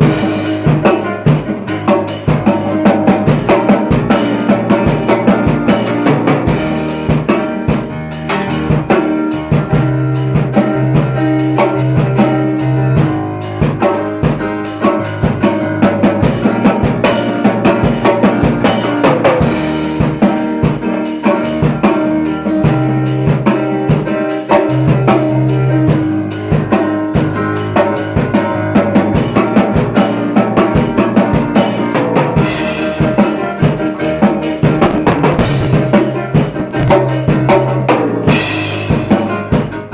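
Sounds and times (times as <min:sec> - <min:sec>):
music with driving drum beat: 0:00.0 - 0:39.9.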